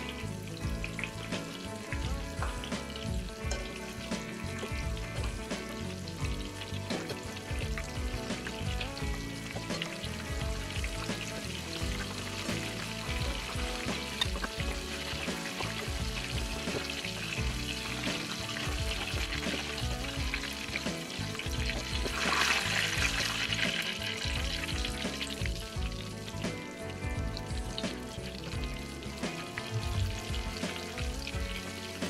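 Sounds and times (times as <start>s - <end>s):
mushrooms sizzling in hot oil: 0.0s - 32.0s.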